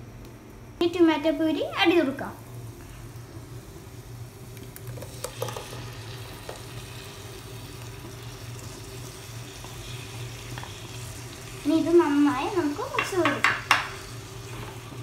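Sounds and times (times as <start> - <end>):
food sizzling in a pot: 1.9 - 15.0.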